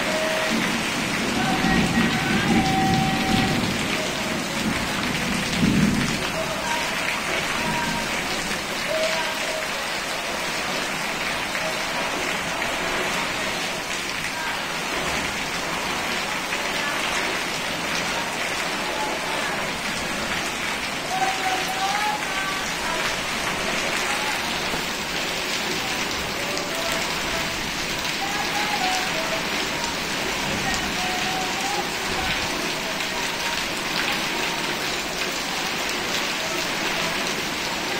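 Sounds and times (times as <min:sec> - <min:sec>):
heavy rain: 0:00.0 - 0:37.9
water pouring off roof: 0:00.0 - 0:37.9.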